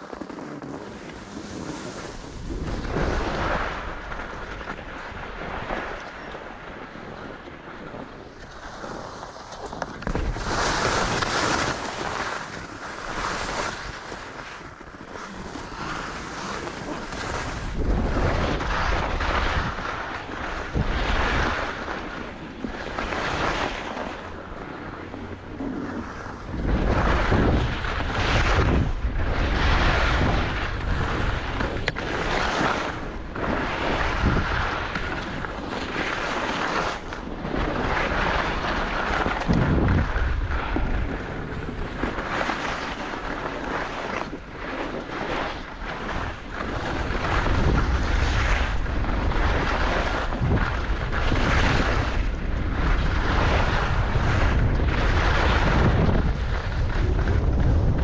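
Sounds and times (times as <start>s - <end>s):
skis scraping over snow: 0.0s - 58.0s.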